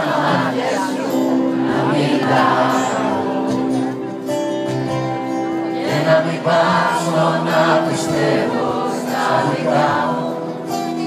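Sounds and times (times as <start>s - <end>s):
live concert music: 0.0s - 11.0s.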